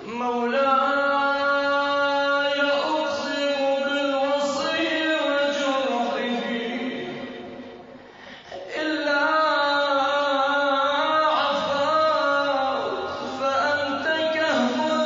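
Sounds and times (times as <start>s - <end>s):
man chanting melodically: 0.0s - 7.6s, 8.5s - 15.0s.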